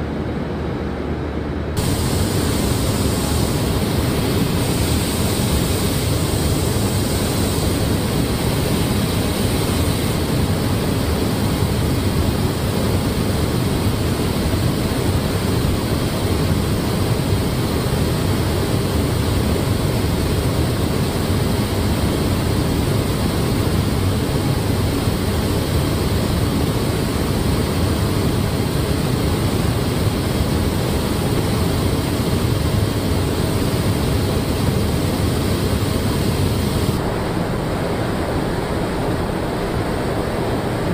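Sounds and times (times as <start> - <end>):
rushing air in paint booth: 1.7 - 40.9.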